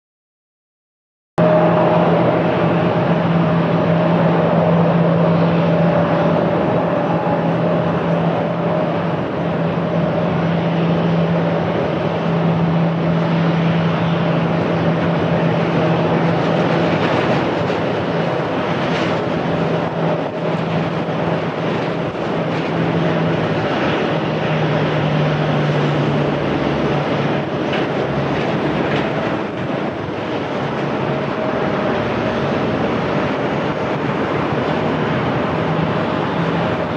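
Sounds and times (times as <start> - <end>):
aircraft engines droning: 1.4 - 36.9.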